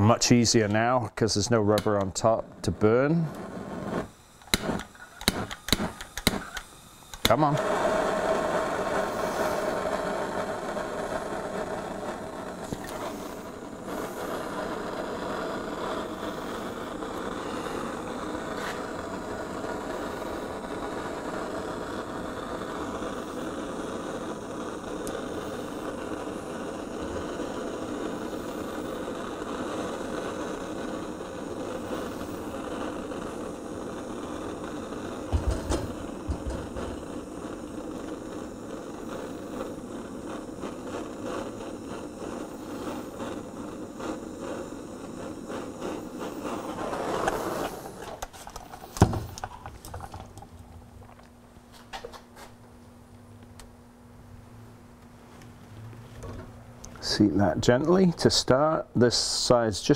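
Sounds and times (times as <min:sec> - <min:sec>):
blowtorch hissing: 0:00.0 - 0:52.6, 0:56.2 - 0:59.9.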